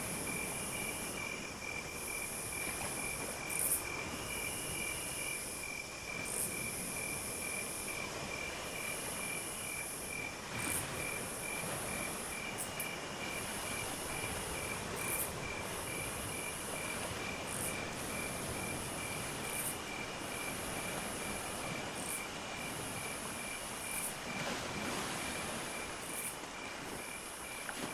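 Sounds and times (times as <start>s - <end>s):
cricket trilling: 0.0s - 27.9s
high-pitched insect chorus: 0.0s - 27.9s
steady background hiss: 0.0s - 27.9s.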